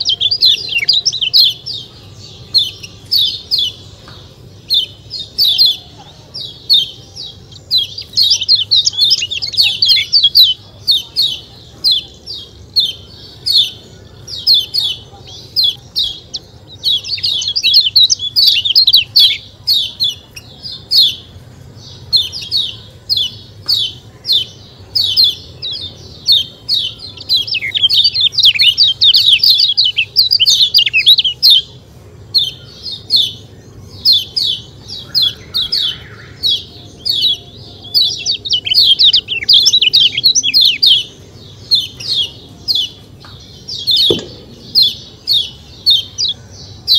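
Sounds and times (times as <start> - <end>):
bird chirping rapidly: 0.0 - 4.0, 4.6 - 31.7, 32.3 - 46.9.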